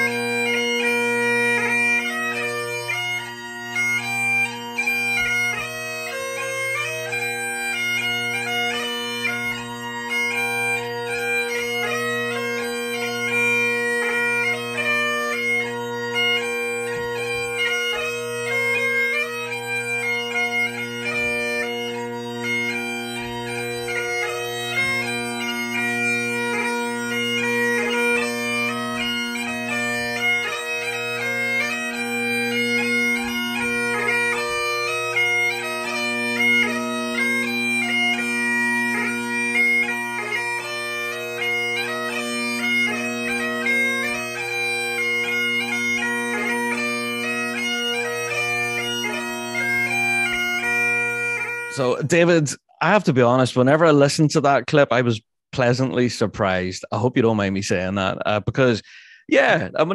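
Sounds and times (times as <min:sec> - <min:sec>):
bagpipe drones: 0:00.0 - 0:52.4
bagpipe chanter tune: 0:00.0 - 0:53.9.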